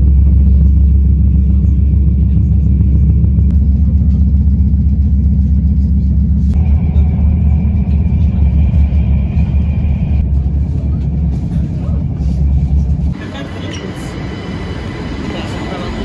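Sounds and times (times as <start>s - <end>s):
high whine: 0.0s - 16.0s
train rumble inside carriage: 0.0s - 16.0s.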